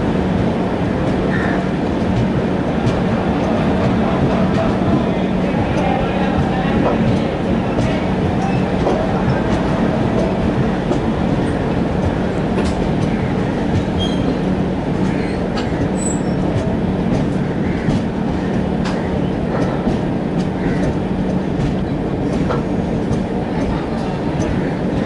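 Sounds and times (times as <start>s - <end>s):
train rumbling along track: 0.0s - 25.0s
wheels clicking on rails: 0.0s - 25.0s.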